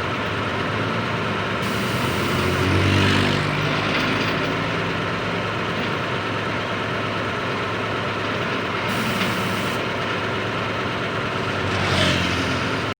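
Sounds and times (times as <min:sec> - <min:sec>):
diesel engine idling: 0:00.0 - 0:11.7.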